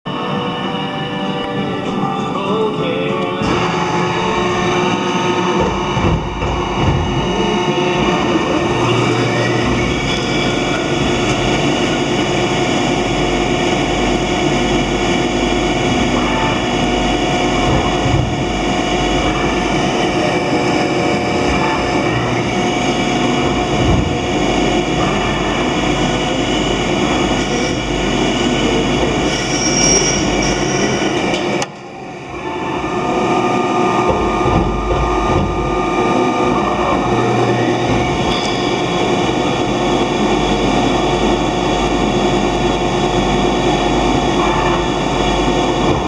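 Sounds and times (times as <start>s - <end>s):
lathe machining: 0.1s - 46.0s
machine whining tones: 0.1s - 46.0s.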